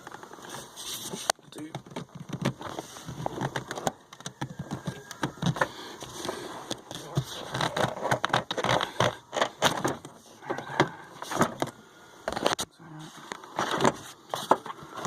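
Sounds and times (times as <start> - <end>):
plastic parts scraping and creaking: 0.0 - 15.0.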